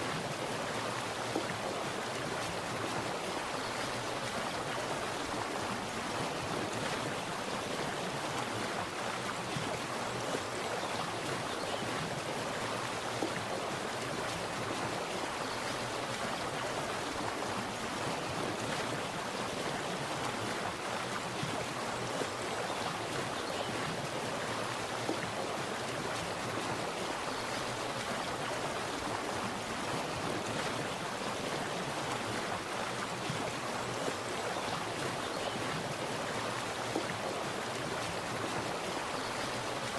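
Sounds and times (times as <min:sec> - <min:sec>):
water splashing and flowing: 0:00.0 - 0:39.9.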